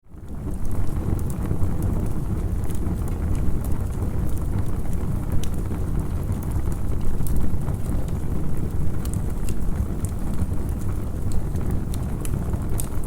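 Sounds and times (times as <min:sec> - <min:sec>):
campfire crackling and popping: 0:00.2 - 0:13.0.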